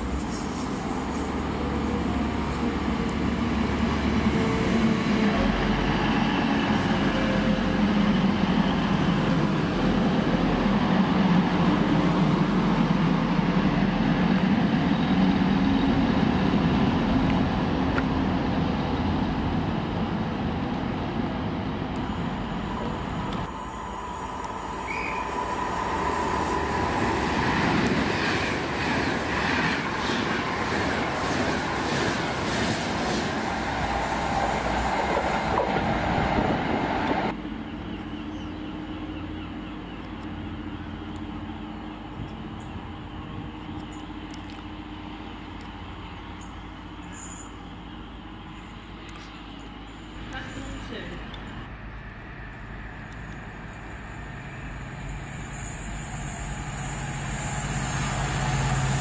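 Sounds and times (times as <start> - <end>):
fast train rushing past: 0.0 - 37.8, 40.4 - 59.0
diesel train rumbling: 0.0 - 59.0.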